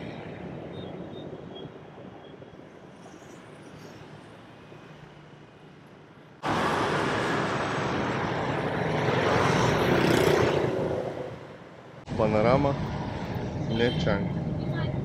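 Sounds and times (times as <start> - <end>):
street traffic hum: 0.0 - 15.0
vehicles rushing past: 2.9 - 15.0.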